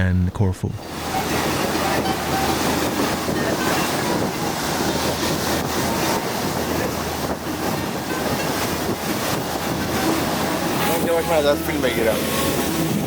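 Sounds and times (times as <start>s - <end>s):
boat engine drone: 0.0s - 13.0s
water rushing along hull: 0.0s - 13.0s.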